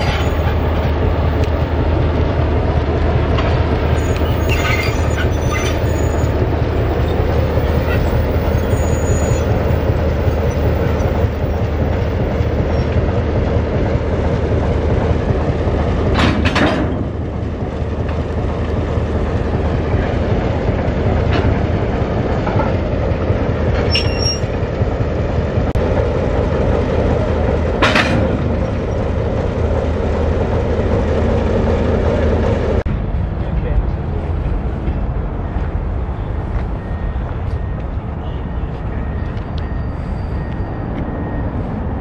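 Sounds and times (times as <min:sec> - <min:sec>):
diesel locomotive idling: 0:00.0 - 0:42.0.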